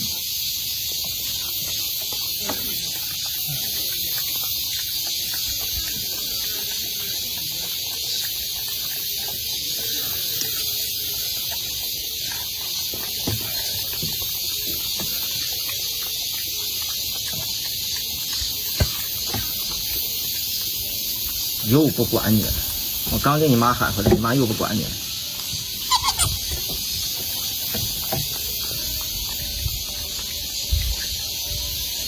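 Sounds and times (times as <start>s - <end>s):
high-pitched hiss: 0.0s - 32.0s.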